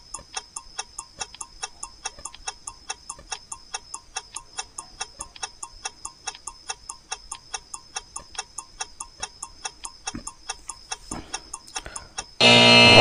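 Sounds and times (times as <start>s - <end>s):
clock ticking: 0.0s - 12.9s.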